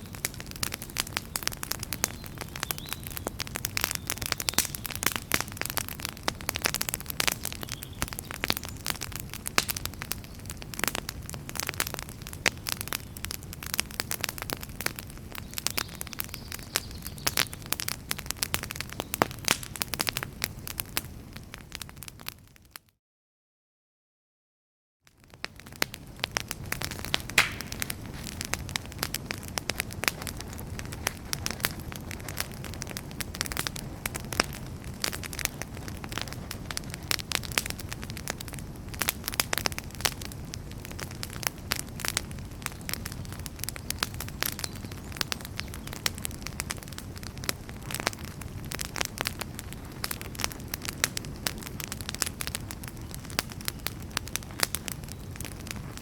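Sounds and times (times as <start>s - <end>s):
logs crackling and popping: 0.0s - 22.8s, 25.1s - 56.0s
fire flames rushing: 0.1s - 15.6s, 25.5s - 56.0s.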